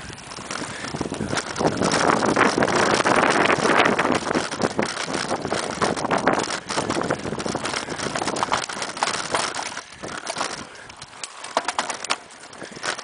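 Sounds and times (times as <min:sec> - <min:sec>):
bike rattling and knocking: 0:00.0 - 0:13.0
bike tyres on dirt trail: 0:00.0 - 0:13.0.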